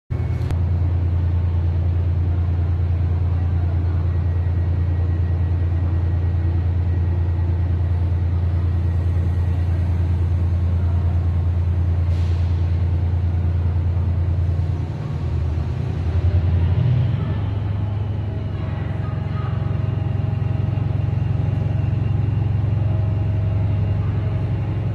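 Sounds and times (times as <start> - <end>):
train engine low drone: 0.1 - 24.9.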